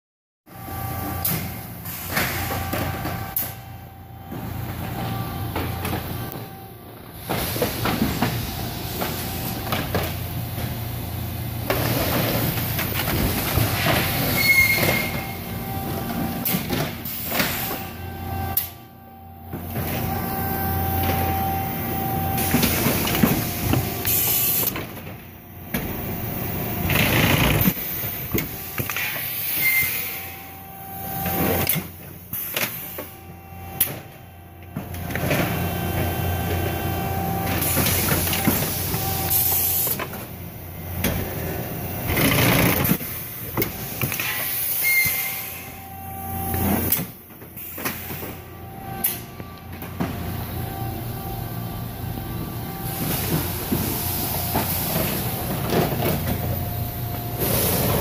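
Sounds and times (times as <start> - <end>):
machinery humming: 0.5 - 58.0.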